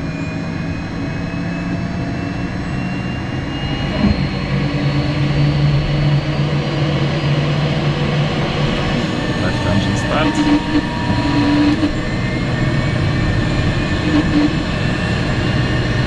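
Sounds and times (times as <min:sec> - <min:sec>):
jet engine whine rising: 0:00.0 - 0:16.0
steady low hum: 0:00.0 - 0:16.0.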